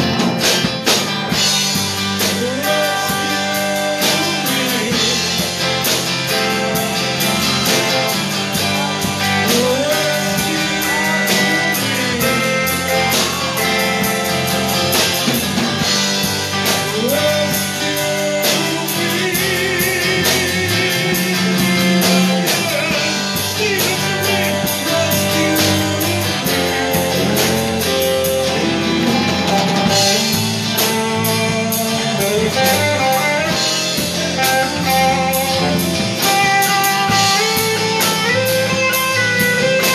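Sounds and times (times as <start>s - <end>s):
bass guitar: 0.0s - 39.9s
electric guitars with bent notes: 0.0s - 39.9s
steady drum beat: 0.0s - 39.9s.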